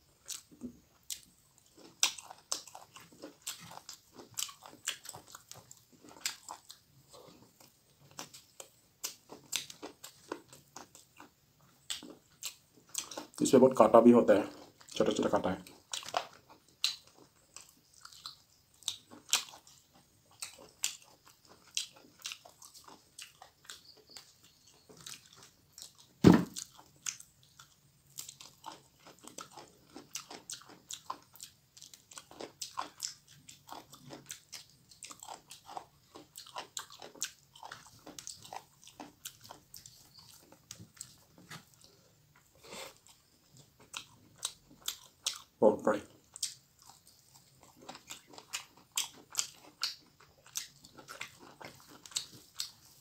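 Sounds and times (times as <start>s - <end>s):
person chewing and crunching: 0.0s - 53.0s.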